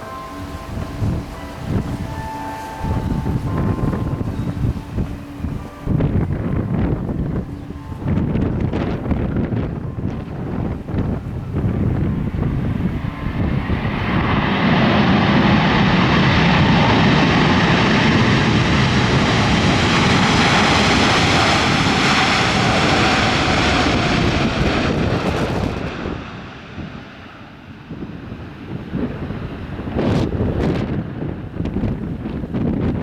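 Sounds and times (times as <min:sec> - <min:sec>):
jet engines passing overhead: 0:00.0 - 0:33.0
wind buffeting microphone: 0:00.0 - 0:33.0.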